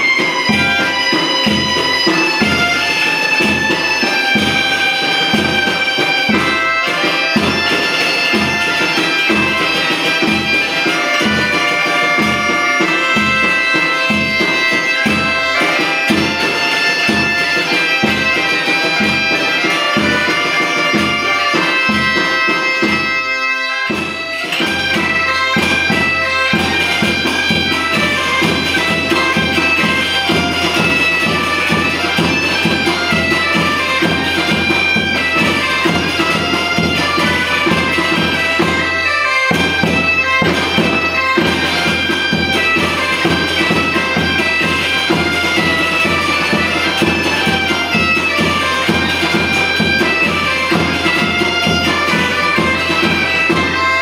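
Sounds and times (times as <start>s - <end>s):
bagpipe melody over drone: 0.0s - 54.0s.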